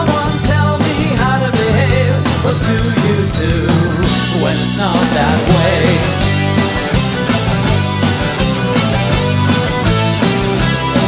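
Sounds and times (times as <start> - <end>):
drum hits: 0.0 - 11.0
rock band instrumental: 0.0 - 11.0.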